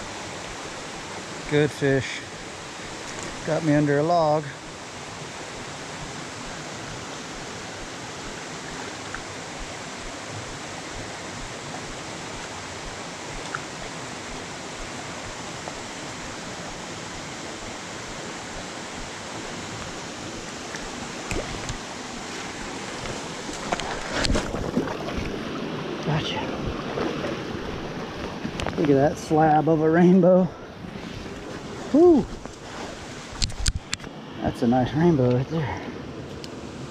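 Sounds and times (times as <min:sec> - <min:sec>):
creek water rushing: 0:00.0 - 0:36.9.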